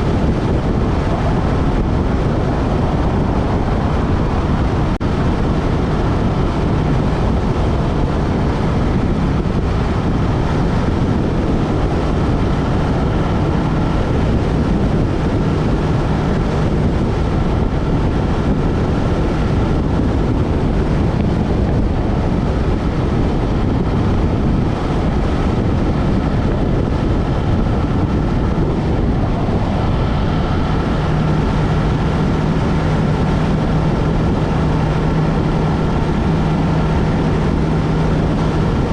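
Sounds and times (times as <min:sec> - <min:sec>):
motorcycle engine cruising: 0:00.0 - 0:38.9
wind rush on microphone: 0:00.0 - 0:38.9.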